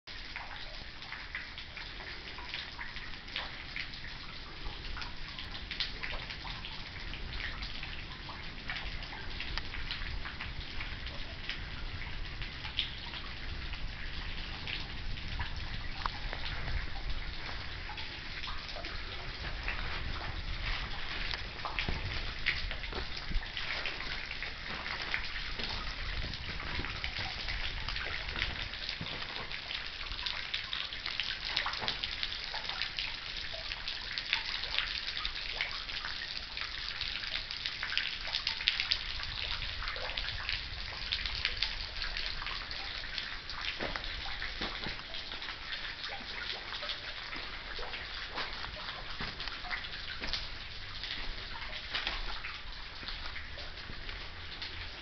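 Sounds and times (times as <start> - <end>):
water dripping into a pool: 0.0 - 55.0.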